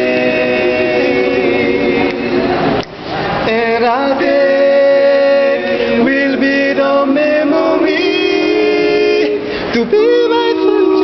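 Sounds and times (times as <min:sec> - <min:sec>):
men singing a cappella harmony: 0:00.0 - 0:02.8, 0:03.4 - 0:11.0.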